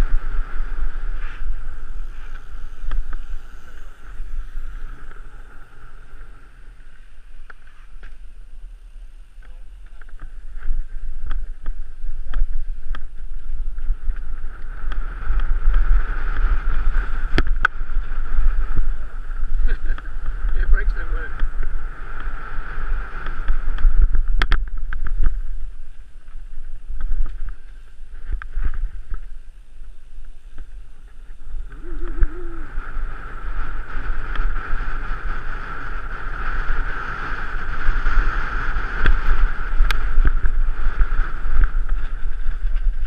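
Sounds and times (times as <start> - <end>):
bike tyres on dirt trail: 0.0 - 43.0
wind buffeting microphone: 0.0 - 43.0.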